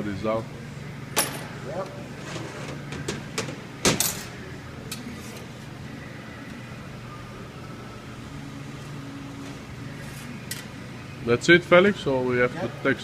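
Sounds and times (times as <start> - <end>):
workshop hum: 0.0 - 13.0.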